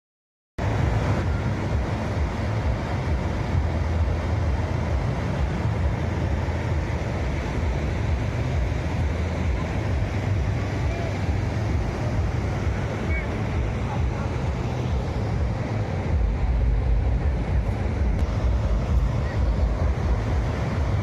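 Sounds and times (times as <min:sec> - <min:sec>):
waterfall roaring: 0:00.6 - 0:21.0.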